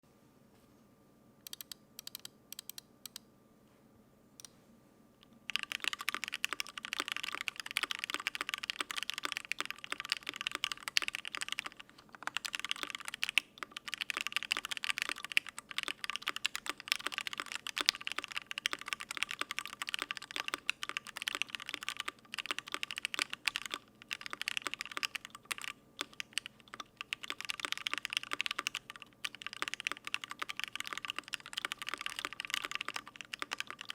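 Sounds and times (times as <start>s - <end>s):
mechanical keyboard typing: 1.4s - 3.2s, 5.5s - 33.9s.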